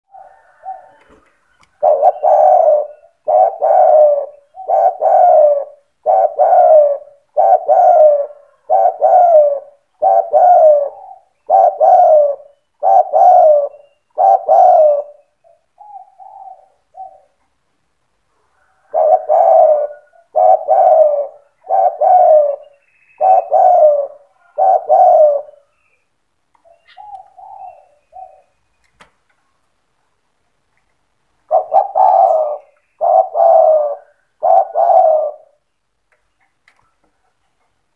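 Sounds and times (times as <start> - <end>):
dove cooing: 0.0 - 17.5, 18.6 - 25.8, 26.6 - 28.6, 31.4 - 35.7.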